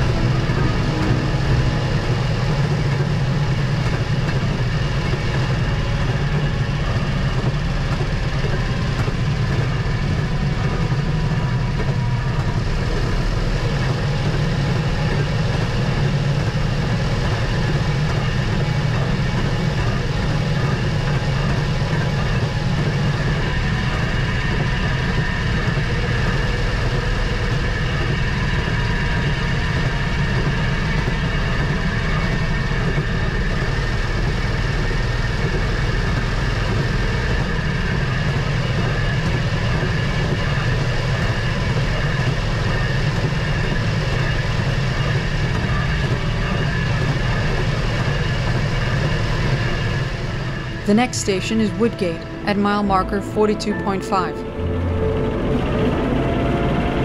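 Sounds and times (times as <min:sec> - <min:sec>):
rail motorcar engine running: 0:00.0 - 0:57.0.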